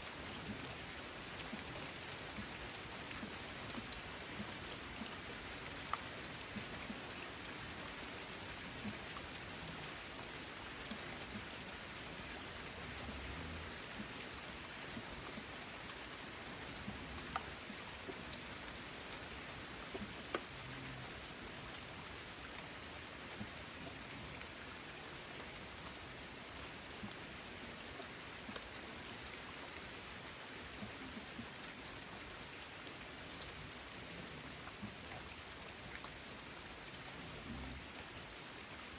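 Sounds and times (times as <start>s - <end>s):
rain on a metal roof: 0.0s - 38.9s.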